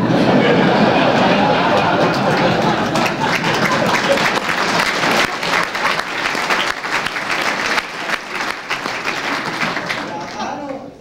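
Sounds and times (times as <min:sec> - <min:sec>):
audience applauding: 0:00.1 - 0:10.9.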